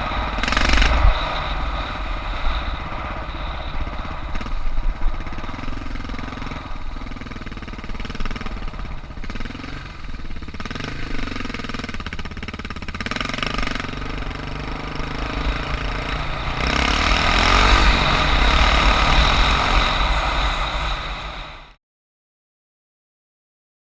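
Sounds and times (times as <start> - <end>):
motorcycle engine running: 0.0 - 21.7.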